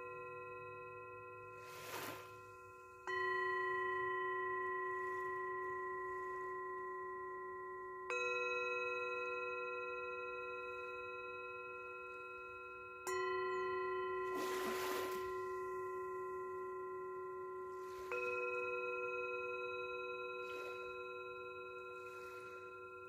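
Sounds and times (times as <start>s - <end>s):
bell-like chime tones: 0.0s - 23.0s.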